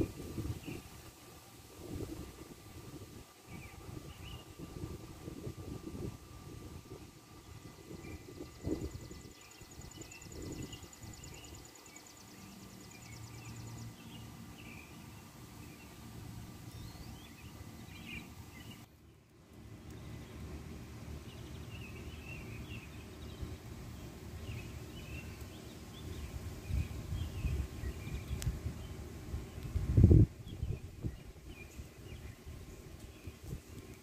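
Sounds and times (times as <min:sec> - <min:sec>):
low outdoor rumble: 0:00.0 - 0:34.0
small birds chirping: 0:00.0 - 0:34.0.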